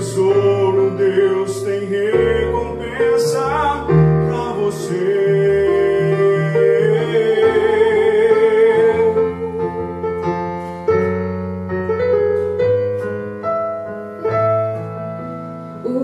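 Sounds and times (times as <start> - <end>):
keyboard piano chords: 0.0 - 16.0.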